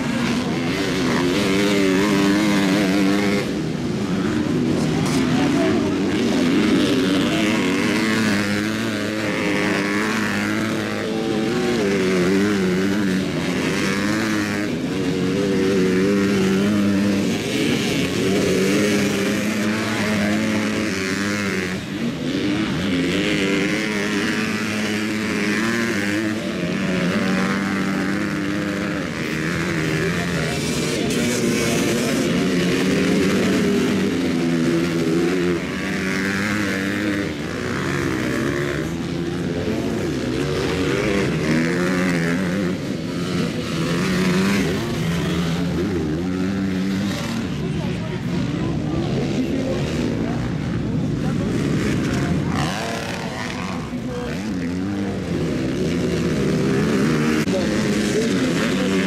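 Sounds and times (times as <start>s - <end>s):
motocross bikes revving: 0.0s - 59.0s.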